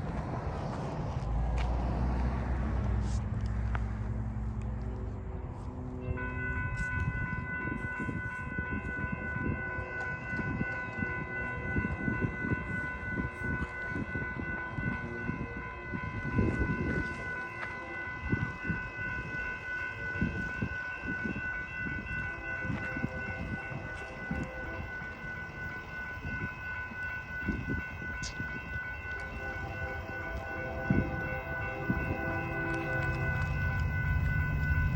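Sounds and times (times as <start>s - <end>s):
steady high multi-tone whine: 0.0s - 34.9s.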